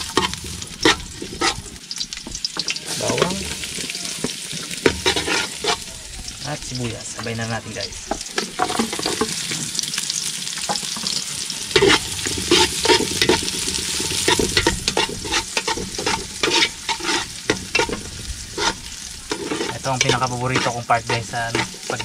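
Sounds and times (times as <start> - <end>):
metal ladle scraping pot: 0.0 - 3.9, 4.5 - 5.9, 8.0 - 9.8, 10.6 - 22.0
vegetables sizzling in a pot: 0.0 - 22.0.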